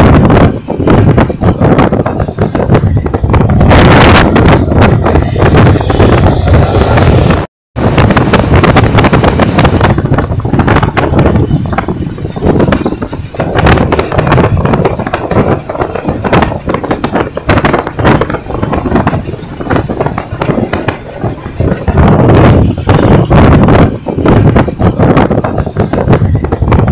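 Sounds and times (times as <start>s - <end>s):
motorcycle engine: 0.0s - 26.9s
tyre noise: 0.0s - 26.9s
wind buffeting microphone: 0.0s - 26.9s.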